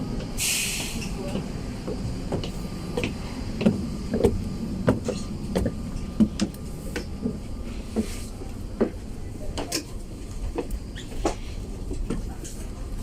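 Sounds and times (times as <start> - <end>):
steady low rumble: 0.0 - 13.0
footsteps walking: 1.3 - 12.8.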